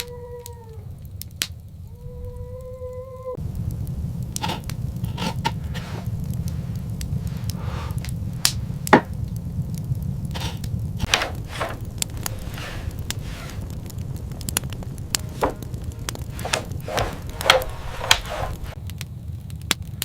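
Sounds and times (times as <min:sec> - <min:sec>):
low rumble: 0:00.9 - 0:20.0.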